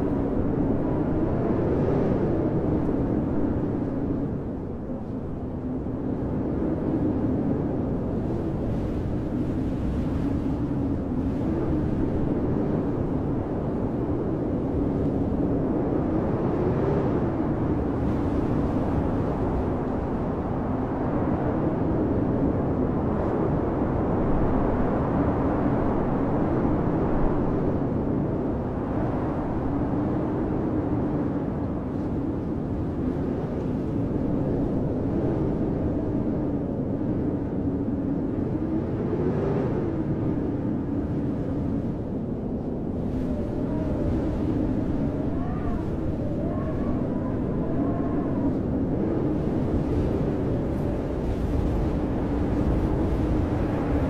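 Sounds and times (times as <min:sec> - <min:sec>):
blizzard wind howling: 0:00.0 - 0:54.0.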